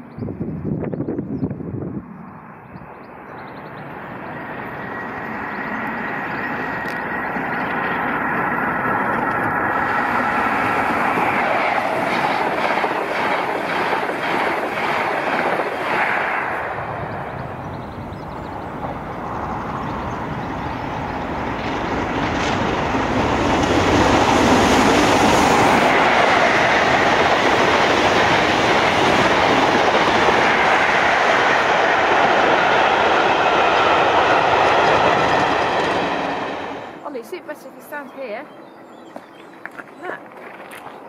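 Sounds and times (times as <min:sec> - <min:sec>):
coaches running on rails: 0:00.0 - 0:41.0
steam locomotive passing: 0:01.7 - 0:40.4
train coaches rushing past: 0:03.1 - 0:41.0.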